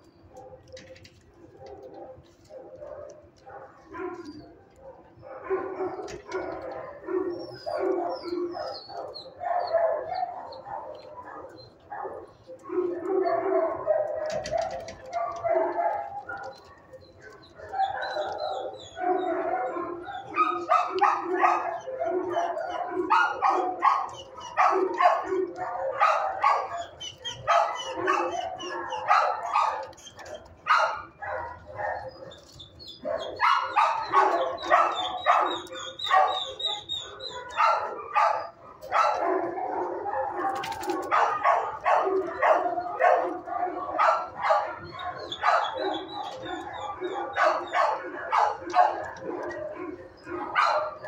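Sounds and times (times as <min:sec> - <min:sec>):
dogs barking: 0:00.0 - 0:51.0.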